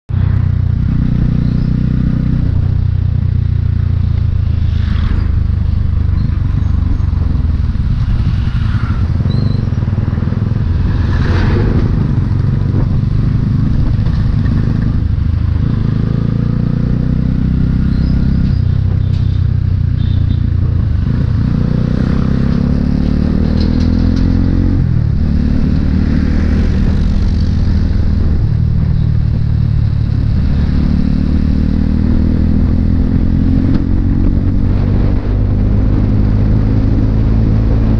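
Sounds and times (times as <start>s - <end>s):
motorcycle engine running: 0.1s - 37.9s.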